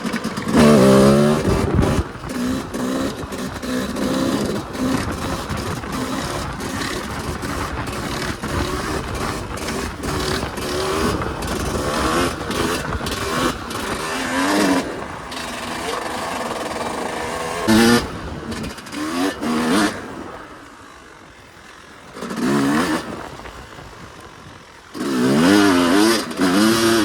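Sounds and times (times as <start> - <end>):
dirt bike engine revving: 0.0 - 24.1, 24.8 - 27.0.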